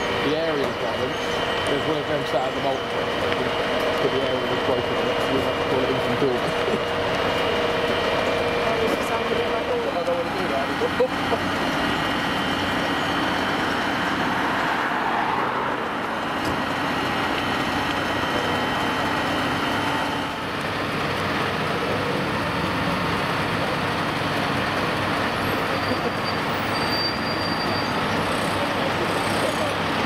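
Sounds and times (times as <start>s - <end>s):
fire engine diesel engines droning: 0.0s - 30.0s
fire engines driving past: 0.0s - 30.0s.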